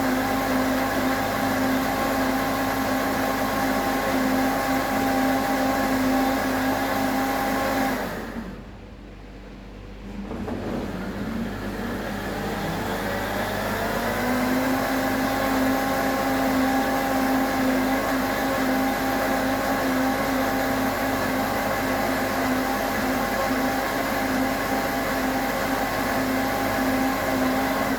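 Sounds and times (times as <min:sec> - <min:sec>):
blender motor running: 0:00.0 - 0:08.6, 0:10.9 - 0:27.9.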